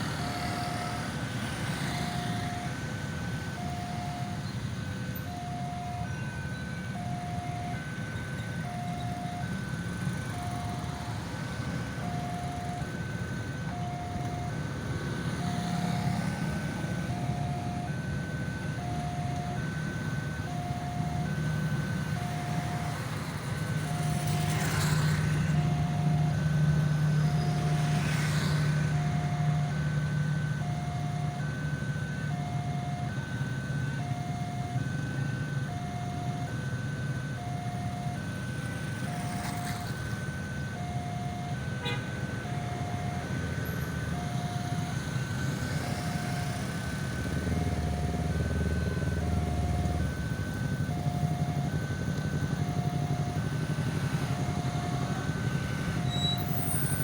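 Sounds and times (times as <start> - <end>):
two-tone ambulance siren: 0.0 - 57.0.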